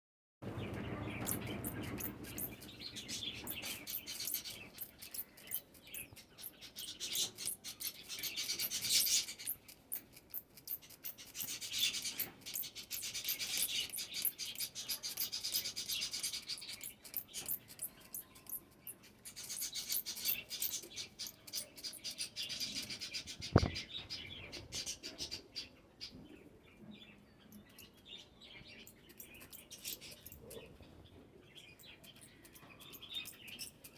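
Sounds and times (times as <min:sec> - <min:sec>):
bird chirps: 0:00.4 - 0:33.9.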